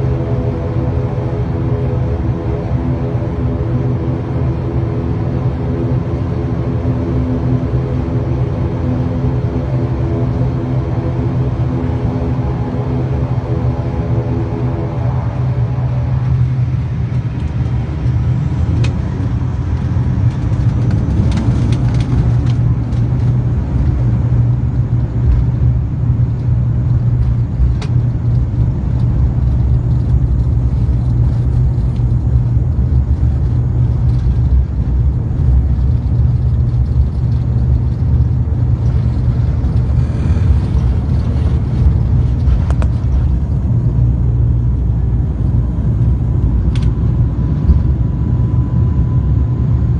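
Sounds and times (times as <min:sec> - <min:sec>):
turboprop engines droning: 0:00.0 - 0:49.9.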